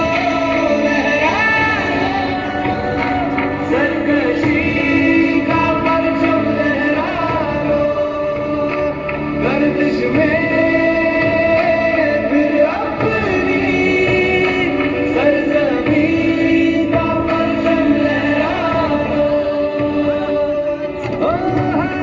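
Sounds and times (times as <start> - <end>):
instrumental accompaniment: 0.0 - 22.0
person singing long sliding notes: 0.0 - 22.0.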